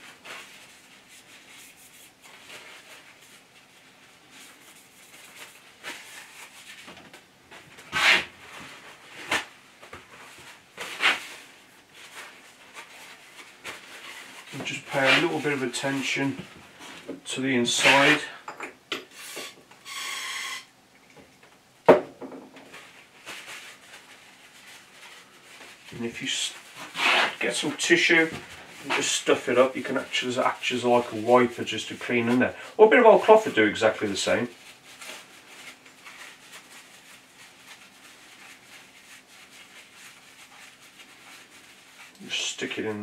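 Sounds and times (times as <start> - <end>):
paper tissue rustling: 0.0 - 18.3, 22.7 - 43.0.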